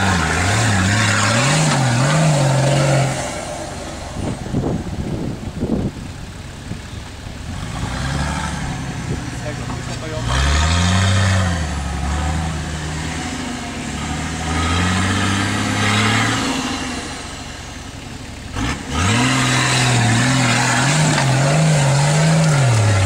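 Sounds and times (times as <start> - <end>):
suv engine revving: 0.0 - 23.0.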